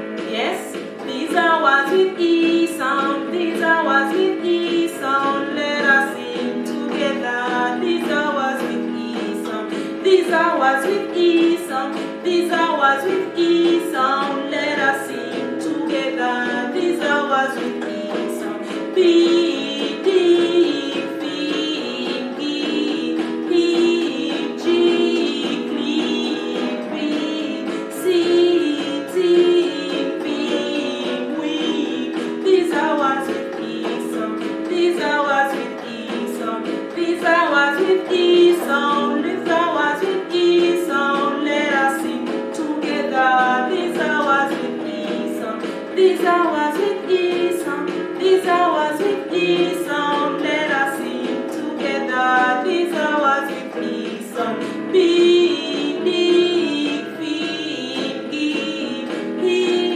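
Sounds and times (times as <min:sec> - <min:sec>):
instrumental backing with beat: 0:00.0 - 0:59.9
woman singing: 0:00.0 - 0:59.9.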